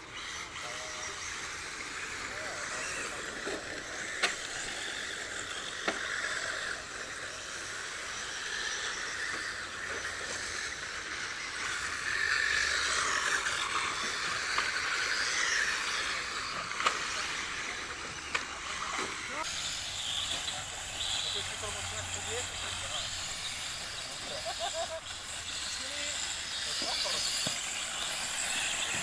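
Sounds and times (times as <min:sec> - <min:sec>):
rc car motors whining: 0:00.0 - 0:29.0.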